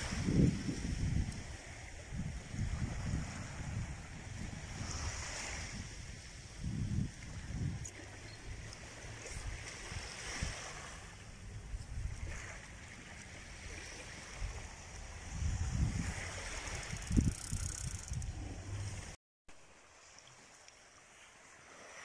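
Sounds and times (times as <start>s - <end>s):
wind rumble on microphone: 0.0s - 19.2s
small waves washing onto sand: 0.0s - 22.0s.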